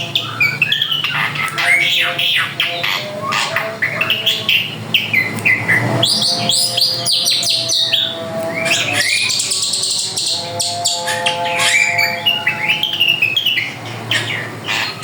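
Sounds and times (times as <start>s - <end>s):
bird singing chirps and whistles: 0.0s - 15.0s.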